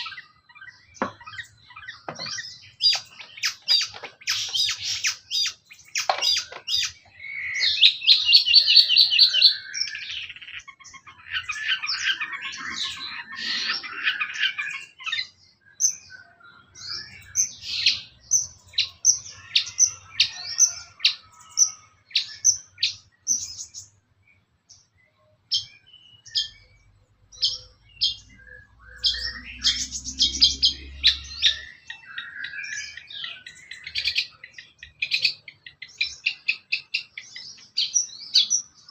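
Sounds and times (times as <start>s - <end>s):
bird singing chattering calls: 0.0s - 38.9s.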